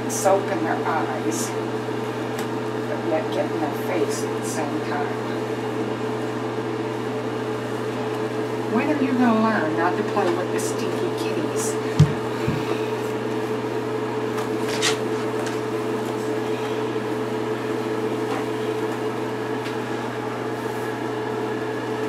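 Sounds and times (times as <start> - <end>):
steady electric hum: 0.0 - 22.0.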